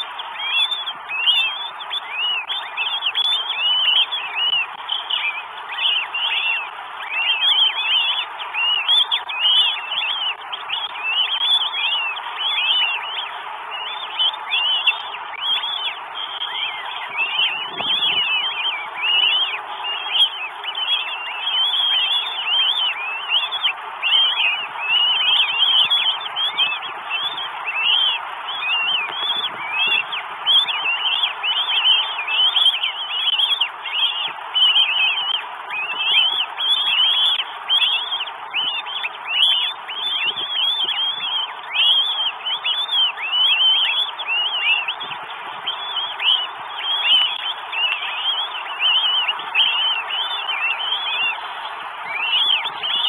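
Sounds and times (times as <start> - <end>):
hawk calling: 0.0 - 53.0.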